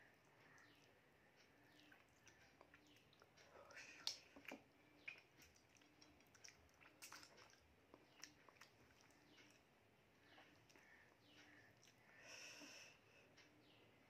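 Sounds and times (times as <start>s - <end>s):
faint chewing and wet mouth sounds: 0.0s - 14.0s
small clicks and smacks: 0.1s - 12.1s.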